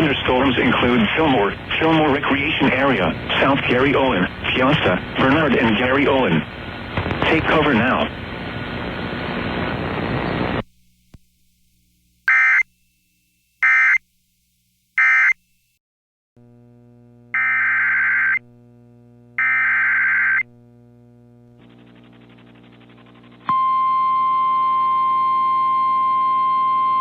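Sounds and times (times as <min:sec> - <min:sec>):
electrical hum: 0:00.0 - 0:15.7, 0:16.4 - 0:27.0.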